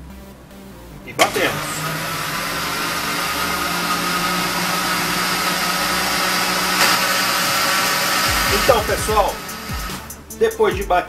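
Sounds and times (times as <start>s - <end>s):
blender running: 1.2s - 10.3s.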